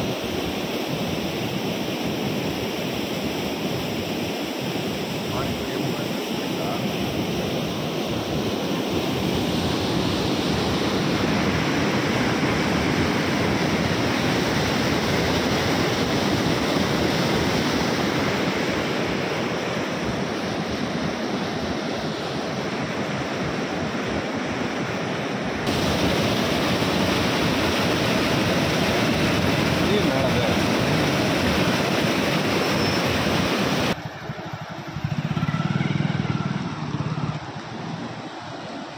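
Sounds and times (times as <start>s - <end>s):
water rushing through channel: 0.0s - 24.3s, 25.4s - 38.9s.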